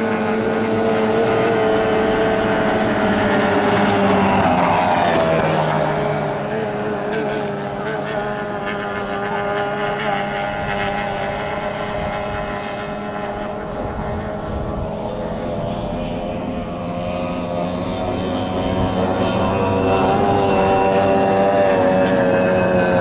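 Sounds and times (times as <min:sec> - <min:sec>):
racing boat engines droning: 0:00.0 - 0:23.0.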